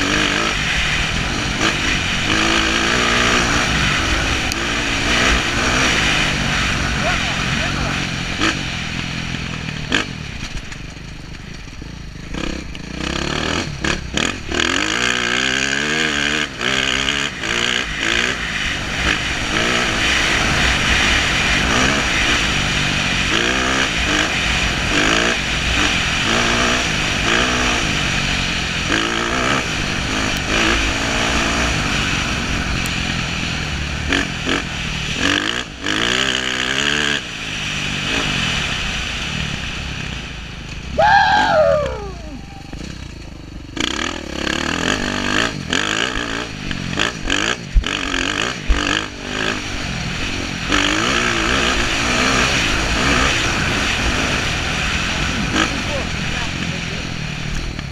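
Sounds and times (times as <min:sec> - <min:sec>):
dirt bike engine revving: 0:00.0 - 0:10.7, 0:11.6 - 0:40.2, 0:40.8 - 0:57.9.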